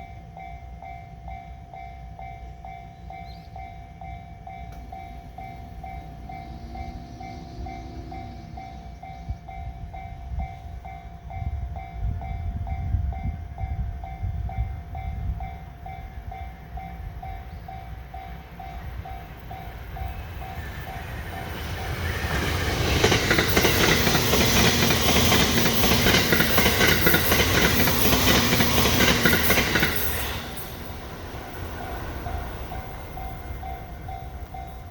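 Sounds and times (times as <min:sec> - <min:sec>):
electric train passing: 0:00.0 - 0:34.9
level-crossing warning bell: 0:00.0 - 0:34.9.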